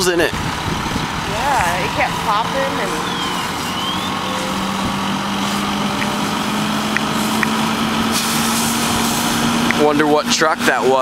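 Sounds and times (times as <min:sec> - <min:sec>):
fire engine running: 0:00.0 - 0:11.0.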